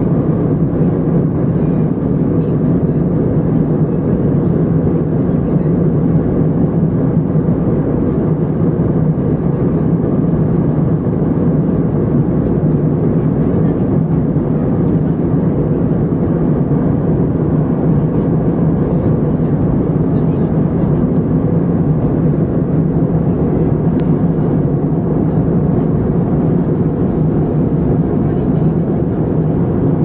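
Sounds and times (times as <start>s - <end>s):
airplane cabin rumble: 0.0s - 30.0s
steady low hum: 0.0s - 30.0s.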